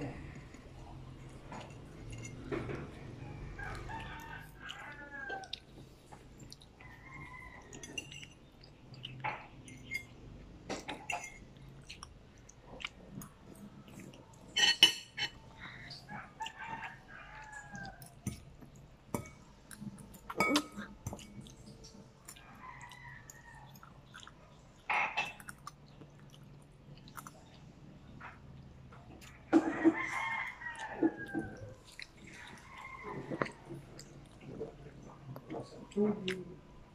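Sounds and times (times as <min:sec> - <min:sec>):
child chewing and slurping: 0:00.0 - 0:36.9.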